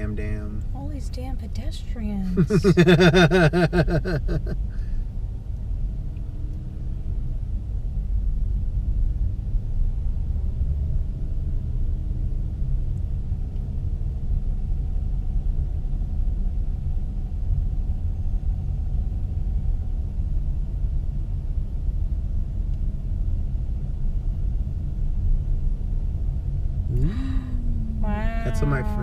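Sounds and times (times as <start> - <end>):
car driving at low speed: 0.0 - 29.0.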